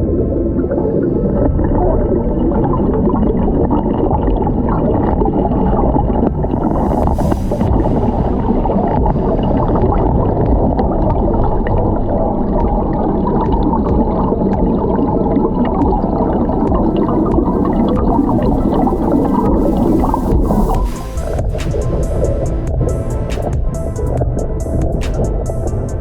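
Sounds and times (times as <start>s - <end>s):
muffled water gurgling: 0.0s - 26.0s.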